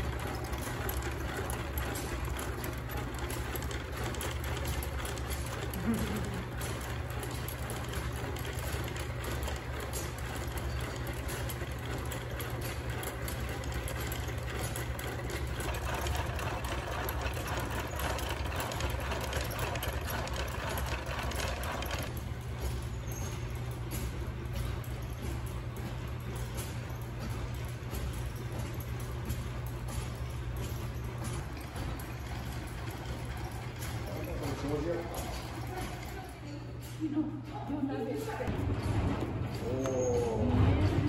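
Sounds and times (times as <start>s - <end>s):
mechanical hum: 0.0s - 41.0s.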